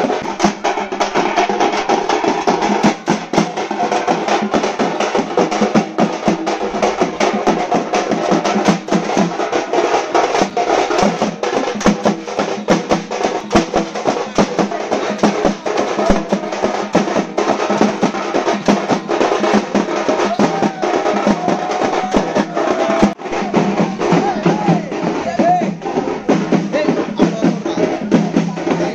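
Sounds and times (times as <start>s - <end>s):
frame drums beaten rapidly: 0.0s - 28.9s.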